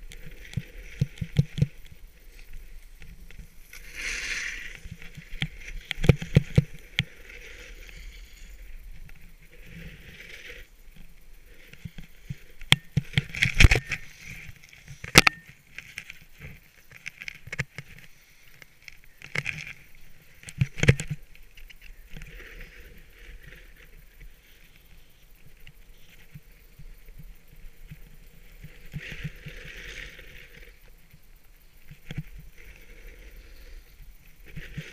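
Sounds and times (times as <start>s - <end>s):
skis sliding on snow: 0.0s - 15.0s, 19.7s - 30.9s, 31.8s - 34.9s.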